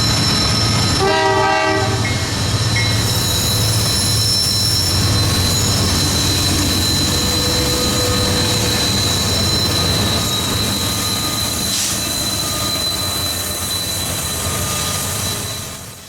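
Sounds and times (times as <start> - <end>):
high wheel squeal: 0.0 - 16.0
train wheels rumbling on rail: 0.0 - 16.0.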